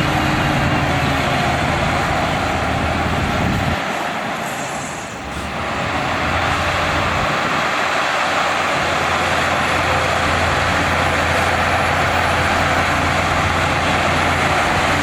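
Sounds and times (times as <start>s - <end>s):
diesel earthmoving machinery running: 0.0s - 15.0s.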